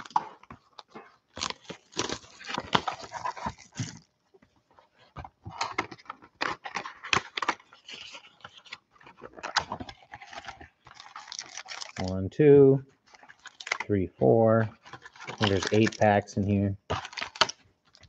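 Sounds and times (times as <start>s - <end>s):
plastic shrink wrap crinkling: 0.0s - 4.1s, 5.6s - 12.2s, 13.0s - 13.9s, 14.7s - 18.0s.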